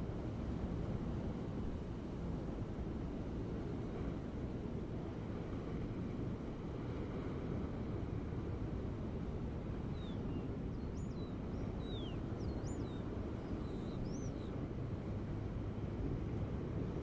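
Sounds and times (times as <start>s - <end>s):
ocean surf rumble: 0.0s - 17.0s.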